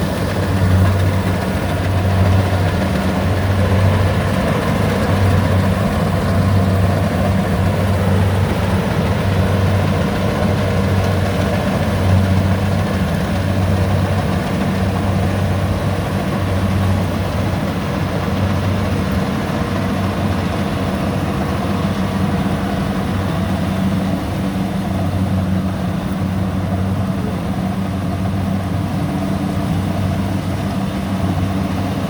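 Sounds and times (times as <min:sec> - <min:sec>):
combine harvester engine humming: 0:00.0 - 0:32.0.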